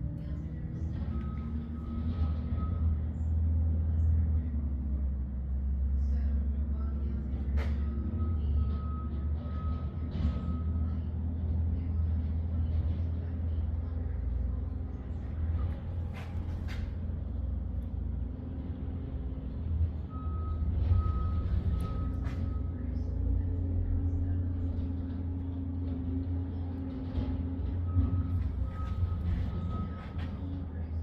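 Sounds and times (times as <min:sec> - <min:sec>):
car engine low rumble: 0:00.0 - 0:31.0.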